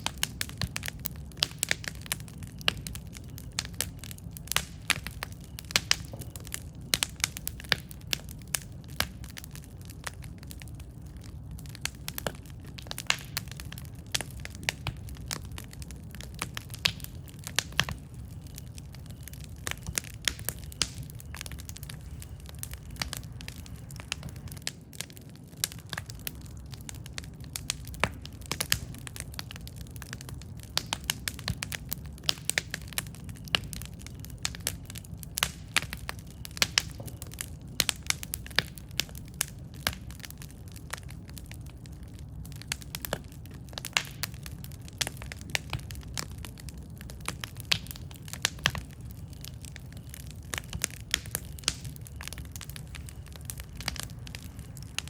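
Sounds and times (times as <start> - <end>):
campfire low rumble: 0.0 - 55.0
wood crackling and popping: 0.0 - 55.0.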